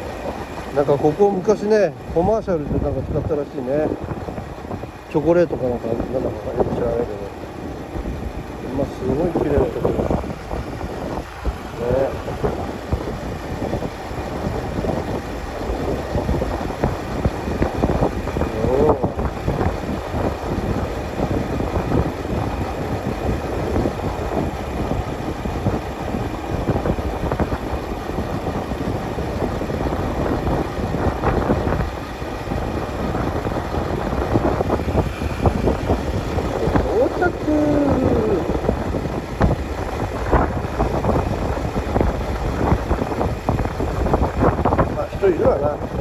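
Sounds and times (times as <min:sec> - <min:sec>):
wind buffeting microphone: 0:00.0 - 0:46.0
motorbike engine running: 0:03.6 - 0:46.0.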